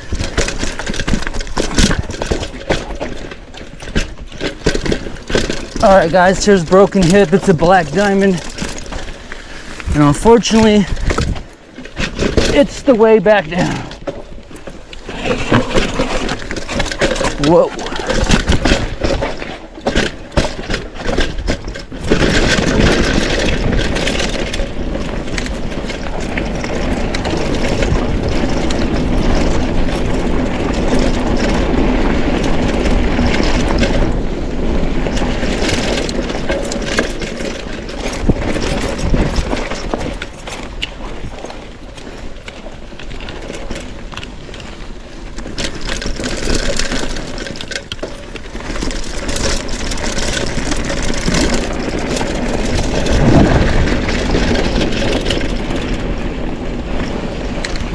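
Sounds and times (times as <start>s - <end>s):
bike rattling and knocking: 0.0s - 57.9s
tyres crunching on dirt: 0.0s - 57.9s
wind rushing over microphone: 5.8s - 45.6s, 48.4s - 57.9s.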